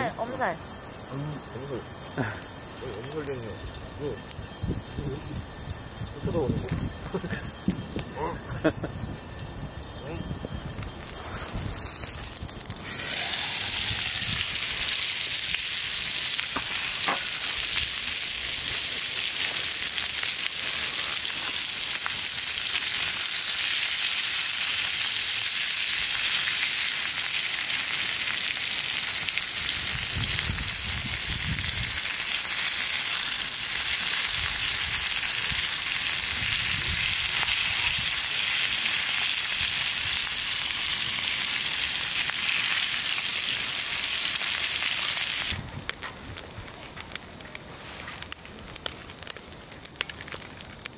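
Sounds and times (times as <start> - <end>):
food sizzling: 0.0 - 45.6.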